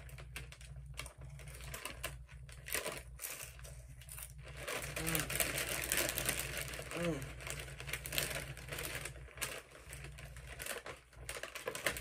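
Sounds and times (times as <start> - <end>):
plastic chip bag crinkling: 0.0 - 12.0.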